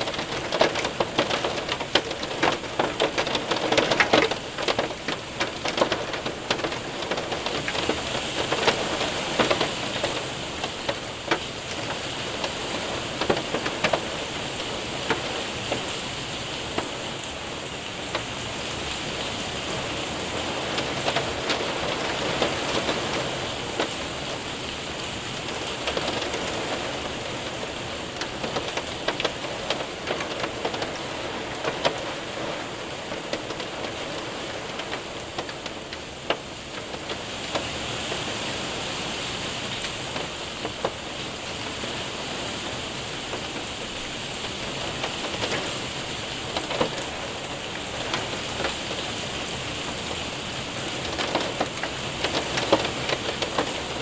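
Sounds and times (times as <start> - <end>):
hailstones ticking and tapping: 0.0 - 54.0.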